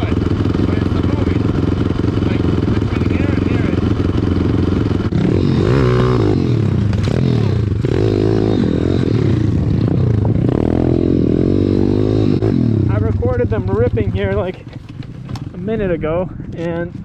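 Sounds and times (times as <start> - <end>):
pit bike engine revving: 0.0 - 15.7.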